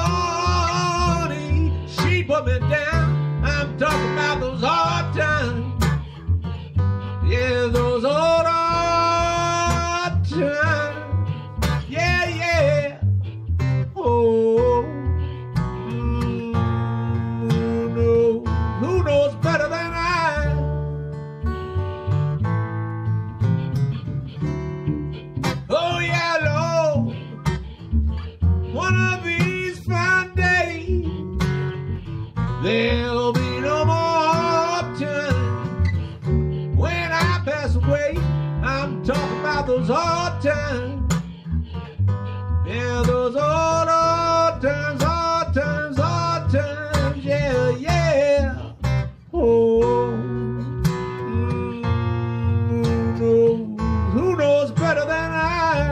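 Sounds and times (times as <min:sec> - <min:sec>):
acoustic guitar strumming blues: 0:00.0 - 0:55.9
lead melody with bends: 0:00.0 - 0:55.9
washtub bass low notes: 0:00.0 - 0:55.9.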